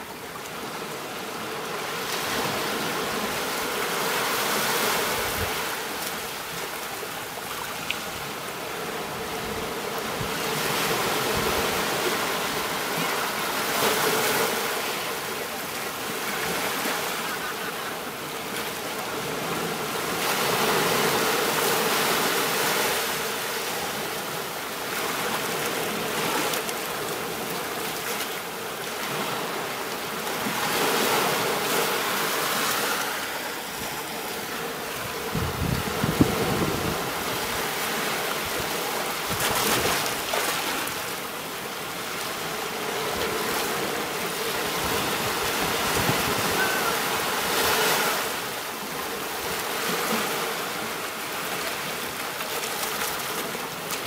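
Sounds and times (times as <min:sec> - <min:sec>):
ocean surf washing up beach: 0:00.0 - 0:54.0.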